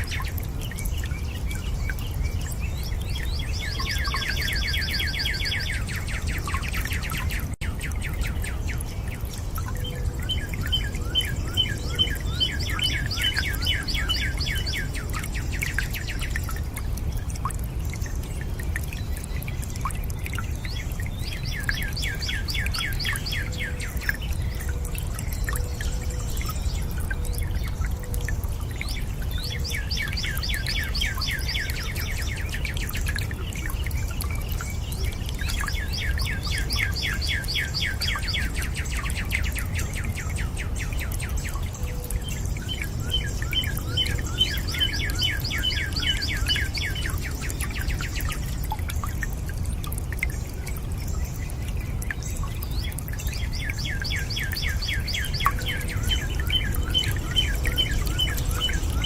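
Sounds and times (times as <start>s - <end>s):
running water: 0.0s - 59.0s
songbirds singing trilled notes: 0.0s - 59.0s.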